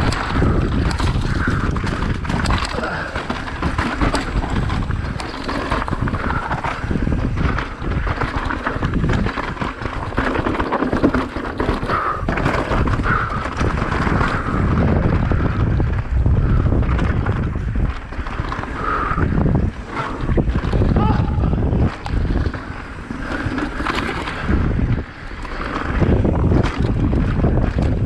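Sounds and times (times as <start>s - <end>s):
bike knocks and clatters: 0.0s - 28.0s
bike rattle and tyre noise: 0.0s - 28.0s
wind buffeting microphone: 0.0s - 28.0s.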